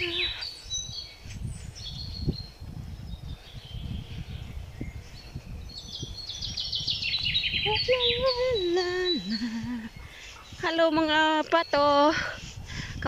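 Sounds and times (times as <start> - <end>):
songbirds singing: 0.0 - 13.0
wind rumble on microphone: 0.0 - 13.0.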